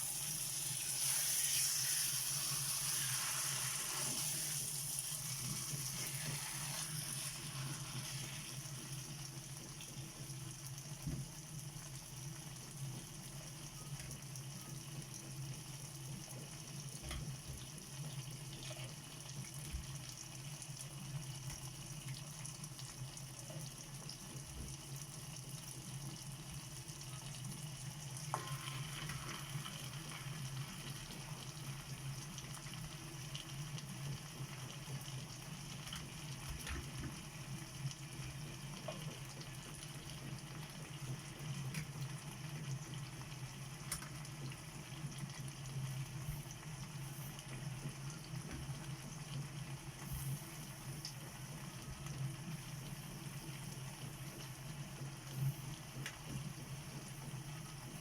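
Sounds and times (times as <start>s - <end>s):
food sizzling in frying pan: 0.0s - 58.0s.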